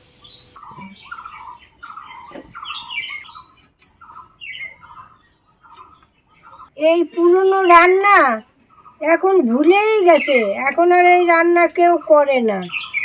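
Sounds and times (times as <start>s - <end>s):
birds squawking and chirping: 0.0s - 13.0s.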